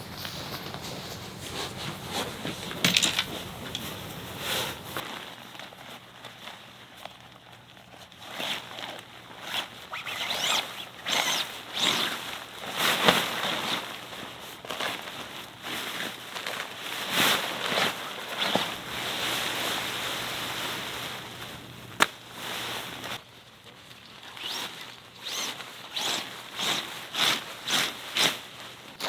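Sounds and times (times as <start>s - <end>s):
rustling and scraping of handling: 0.0s - 29.0s.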